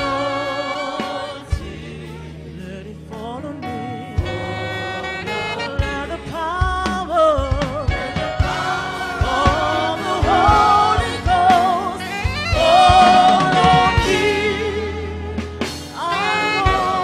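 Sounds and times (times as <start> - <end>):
gospel band with low beat: 0.0 - 17.0
lead voice singing: 0.0 - 17.0.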